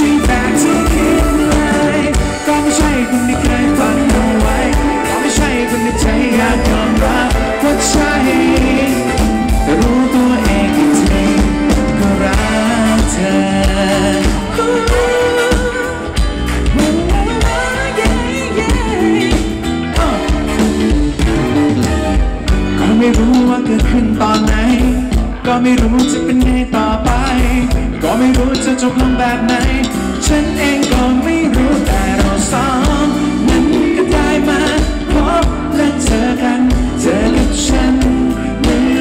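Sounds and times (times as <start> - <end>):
drums: 0.0 - 39.0
electric guitar: 0.0 - 39.0
keyboard: 0.0 - 39.0
person singing: 0.0 - 39.0.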